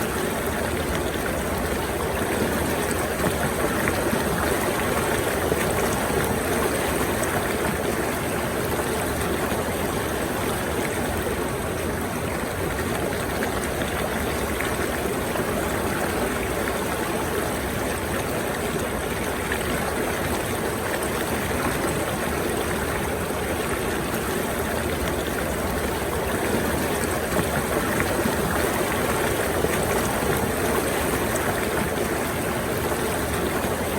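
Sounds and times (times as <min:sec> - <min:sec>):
running water rushing: 0:00.0 - 0:33.9.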